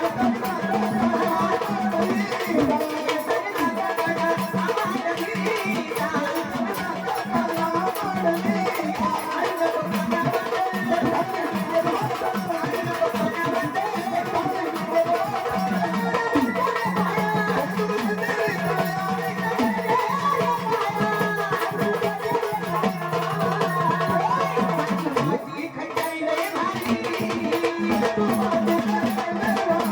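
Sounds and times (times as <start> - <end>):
drum percussion: 0.0 - 29.9
woman singing devotional song: 0.0 - 29.9.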